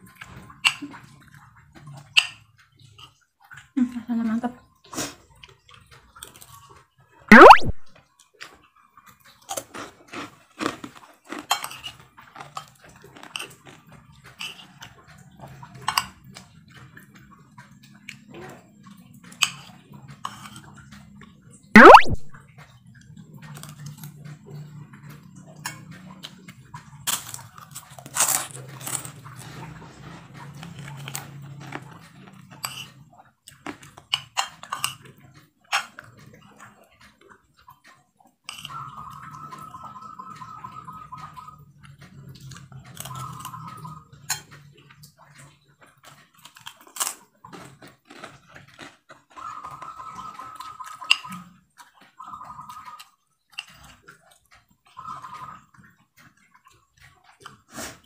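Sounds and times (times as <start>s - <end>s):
mouth chewing and crunching: 4.6s - 58.0s.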